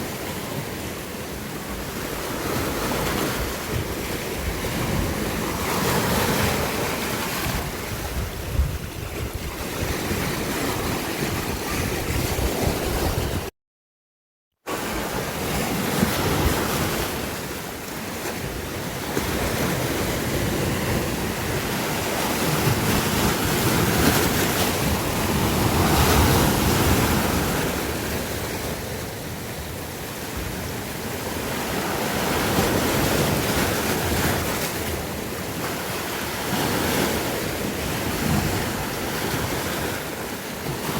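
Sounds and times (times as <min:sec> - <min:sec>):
sea waves washing on shore: 0:00.0 - 0:13.5, 0:14.7 - 0:40.9.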